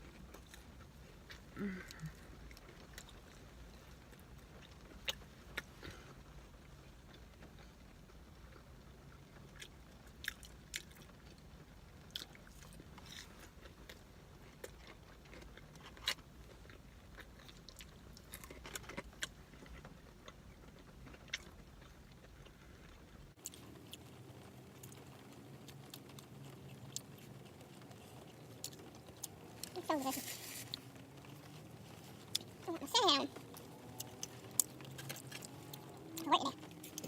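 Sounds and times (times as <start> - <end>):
person chewing food: 0.0 - 6.3, 9.4 - 37.0.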